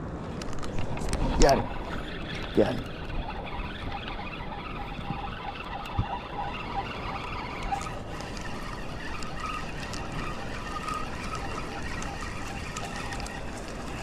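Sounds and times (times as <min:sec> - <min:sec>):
wind and water: 0:00.0 - 0:14.0
fishing reel cranking: 0:00.6 - 0:14.0.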